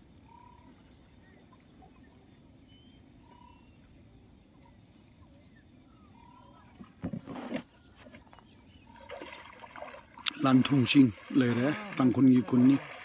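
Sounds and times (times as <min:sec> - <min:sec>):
faint low outdoor rumble: 0:00.0 - 0:13.0.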